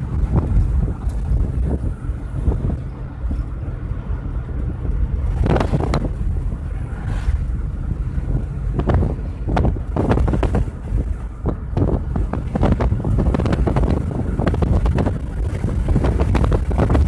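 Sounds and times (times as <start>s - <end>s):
road and wind rumble in car: 0.0s - 17.0s
wind buffeting microphone: 0.0s - 17.0s.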